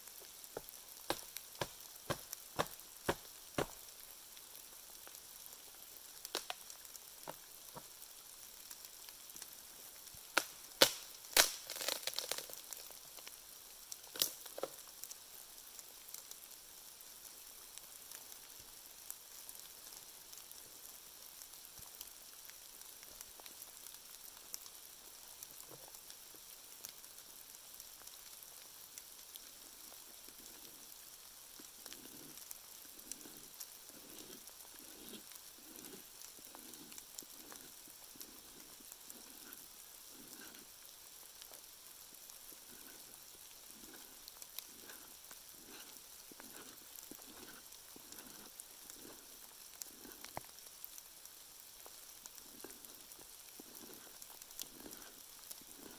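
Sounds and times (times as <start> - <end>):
faint hiss with light ticks: 0.0 - 55.9.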